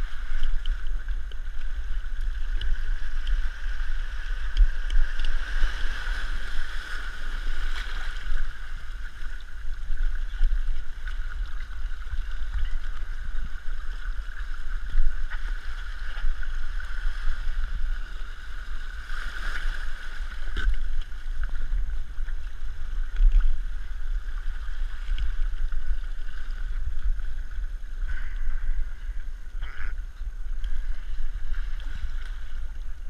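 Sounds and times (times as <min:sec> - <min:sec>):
muffled wind and water rumble: 0:00.0 - 0:33.0
water splashing: 0:00.0 - 0:33.0.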